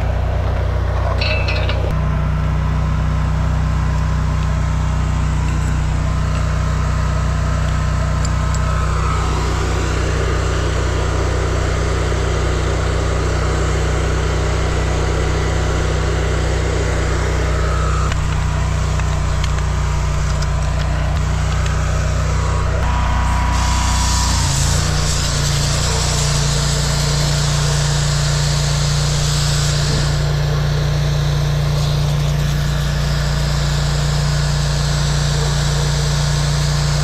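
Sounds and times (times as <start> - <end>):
drain jetter engine humming: 0.0 - 37.0.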